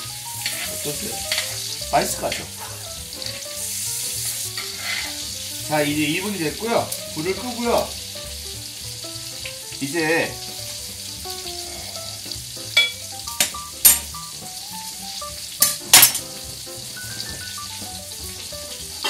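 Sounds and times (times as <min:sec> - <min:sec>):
steak sizzling in a pan: 0:00.0 - 0:19.0.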